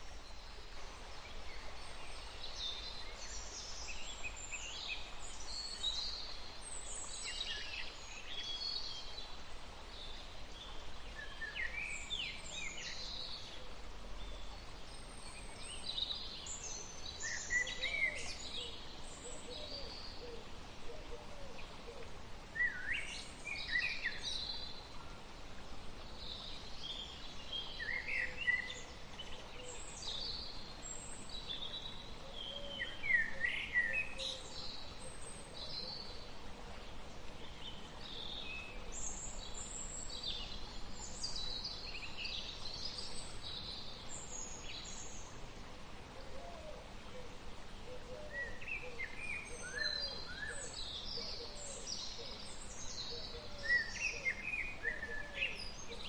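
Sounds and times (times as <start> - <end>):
open-air ambience hiss: 0.0 - 56.0
wild birds chirping: 10.1 - 45.4, 46.1 - 56.0.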